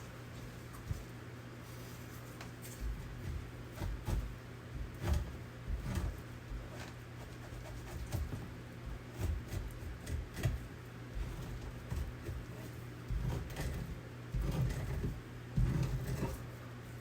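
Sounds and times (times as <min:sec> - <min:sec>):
knife scraping animal hide: 0:01.6 - 0:16.6.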